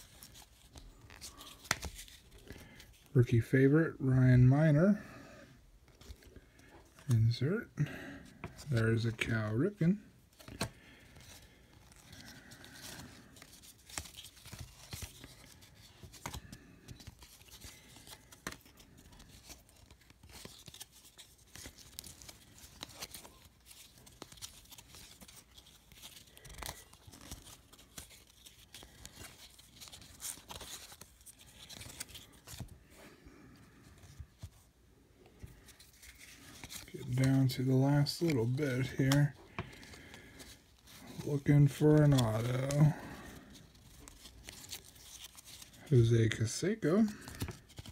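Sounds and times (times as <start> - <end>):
cards sliding and rubbing: 0.0 - 3.1, 10.3 - 47.9.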